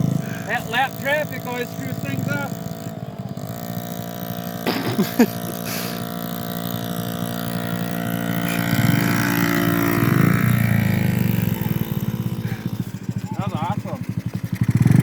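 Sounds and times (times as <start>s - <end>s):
small dirt bike engines running: 0.0s - 15.0s.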